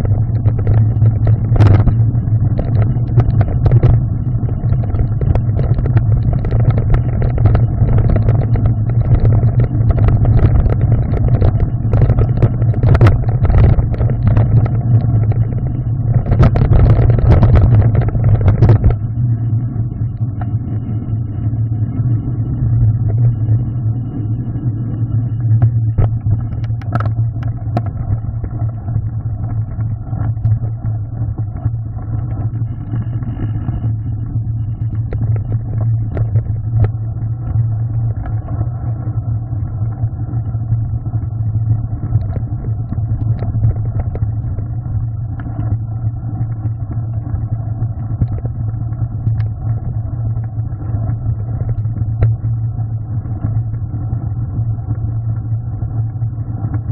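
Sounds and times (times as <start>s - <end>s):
bike tyres rumbling on trail: 0.0s - 56.9s.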